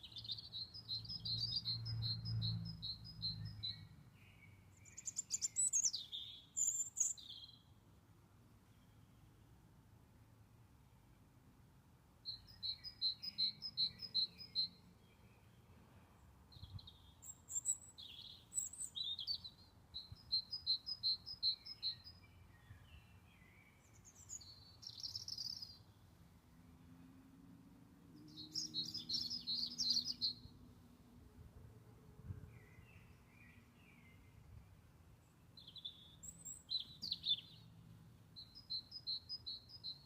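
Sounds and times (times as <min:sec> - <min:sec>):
songbirds singing: 0:00.0 - 0:09.7, 0:12.2 - 0:31.0, 0:32.3 - 0:40.0.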